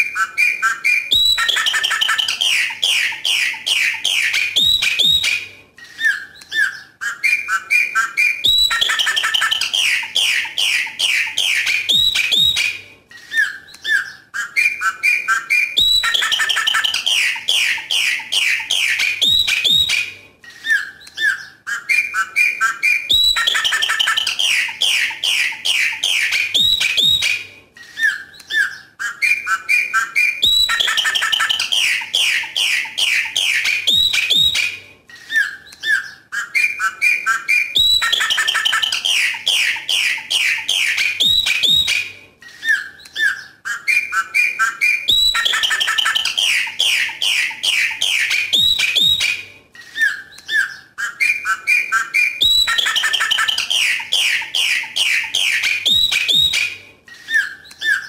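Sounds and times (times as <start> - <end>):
blackbird singing whistled notes: 0.0 - 58.0.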